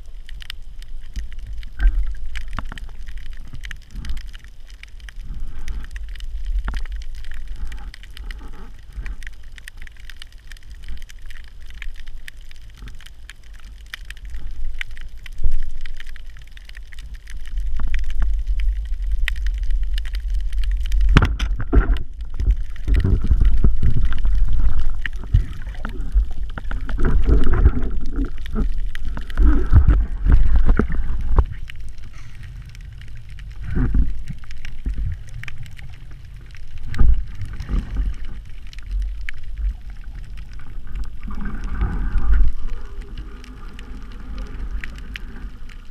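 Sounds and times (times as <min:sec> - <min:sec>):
underwater water rumble: 0:00.0 - 0:45.9.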